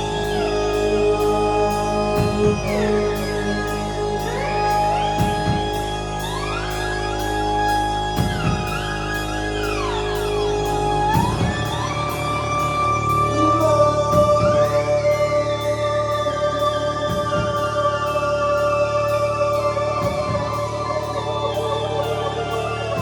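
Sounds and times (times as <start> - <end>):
deep bass notes: 0.0 - 23.0
held keyboard chords with pitch sweeps: 0.0 - 23.0
ticking pulse: 0.0 - 23.0.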